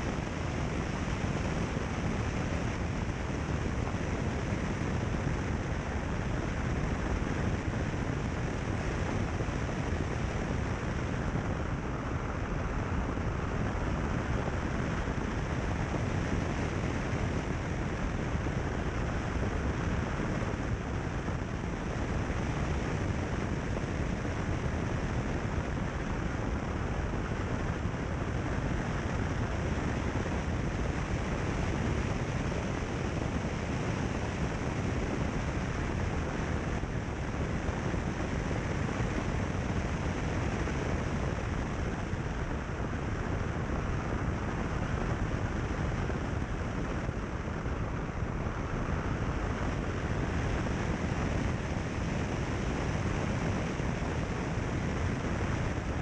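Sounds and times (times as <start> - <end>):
wind rushing on microphone: 0.0 - 56.0.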